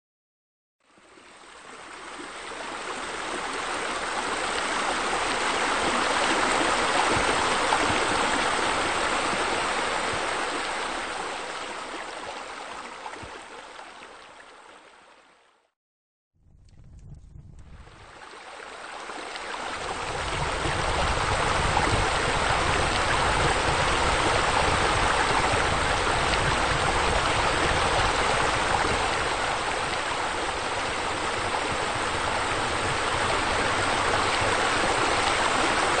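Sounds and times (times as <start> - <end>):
flowing splashing water: 0.8 - 15.5, 17.7 - 36.0.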